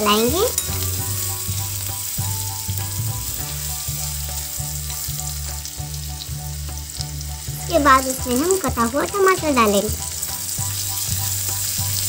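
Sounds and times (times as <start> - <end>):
background music with bass line: 0.0 - 12.0
food sizzling in hot oil: 0.0 - 12.0.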